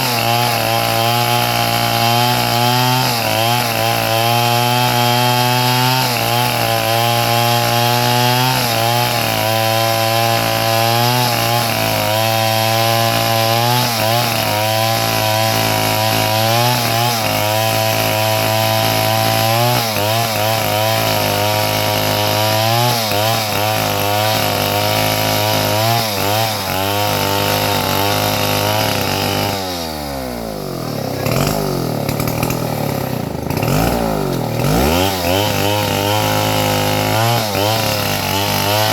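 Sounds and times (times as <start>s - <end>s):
saw cutting wood: 0.0s - 38.9s
sawmill engine running: 0.0s - 38.9s.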